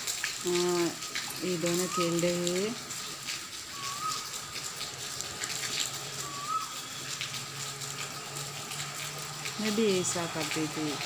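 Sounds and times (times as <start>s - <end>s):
drips on wet ground: 0.0s - 11.0s
light rain hissing: 0.0s - 11.0s.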